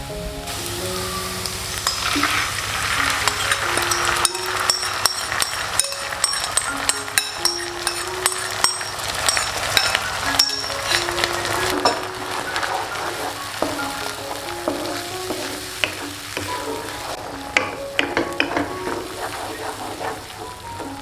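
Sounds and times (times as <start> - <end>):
light background music: 0.0 - 21.0
sauce sizzling in a wok: 0.4 - 21.0.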